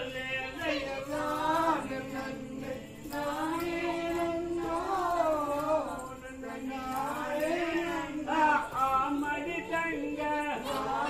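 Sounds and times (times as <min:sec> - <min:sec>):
voices singing folk song: 0:00.0 - 0:11.0.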